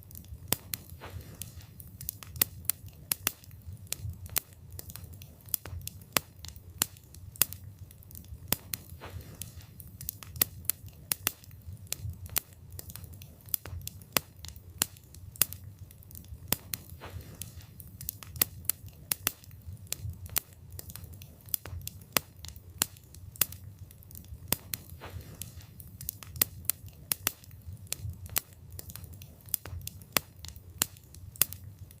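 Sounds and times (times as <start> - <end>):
burning wood popping and snapping: 0.0 - 32.0
fire flames rumbling: 0.0 - 32.0.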